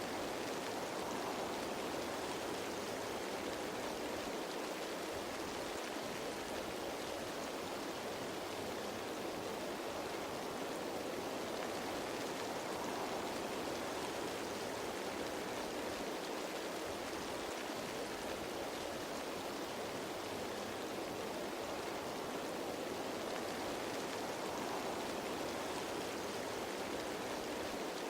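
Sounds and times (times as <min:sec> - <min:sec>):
rain falling on leaves: 0:00.0 - 0:28.0.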